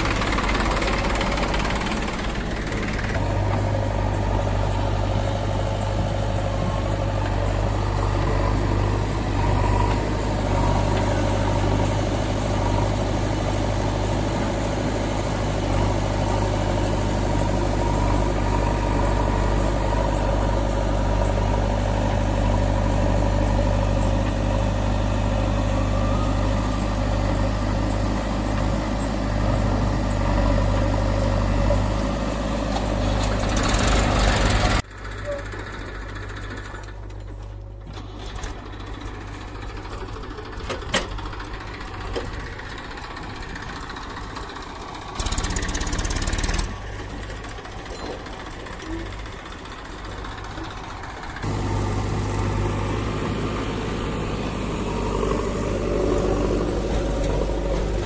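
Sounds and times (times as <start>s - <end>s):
diesel engines idling: 0.0s - 58.0s.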